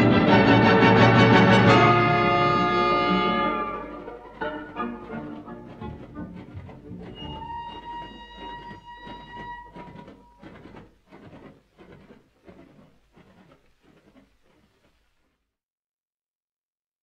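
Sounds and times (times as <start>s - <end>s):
model train clicking on track: 0.5s - 15.1s.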